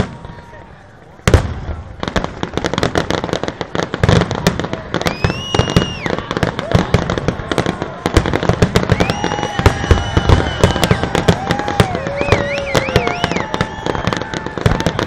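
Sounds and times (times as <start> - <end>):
fireworks bangs and crackles: 0.0 - 15.0
fireworks whistles: 1.3 - 15.0.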